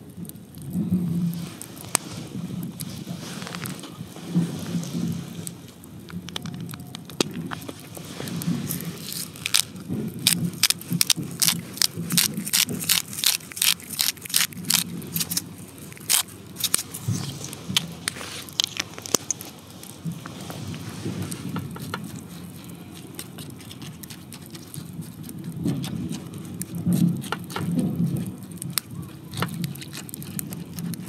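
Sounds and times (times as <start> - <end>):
crisp crackling over a metal tin: 0.0 - 31.0.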